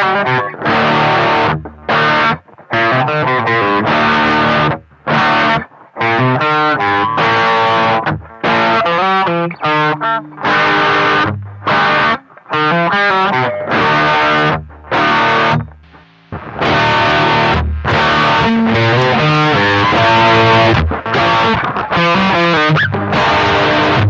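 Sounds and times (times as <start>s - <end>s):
distorted electric guitar riff: 0.0s - 24.0s.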